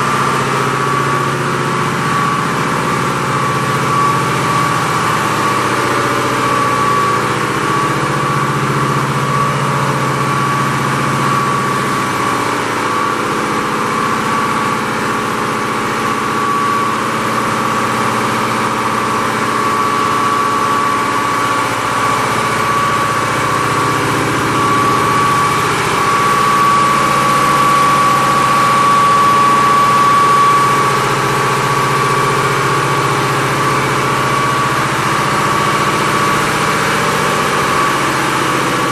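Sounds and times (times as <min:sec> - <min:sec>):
diesel generator drone: 0:00.0 - 0:38.9
steady high whine: 0:00.0 - 0:38.9.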